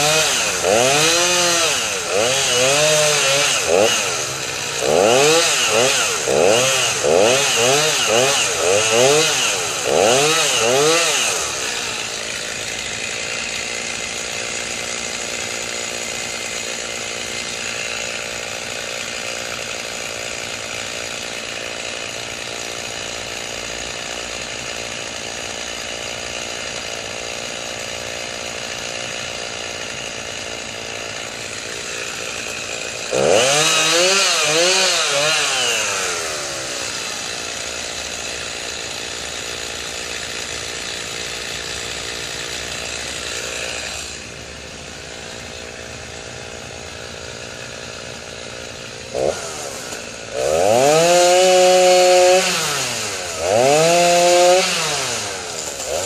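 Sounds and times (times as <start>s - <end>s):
chainsaw engine idling and revving: 0.0s - 56.0s.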